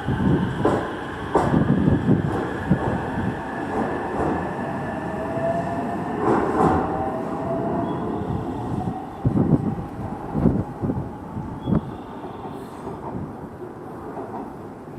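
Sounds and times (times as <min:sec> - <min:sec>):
train rumbling on rails: 0:00.0 - 0:14.9.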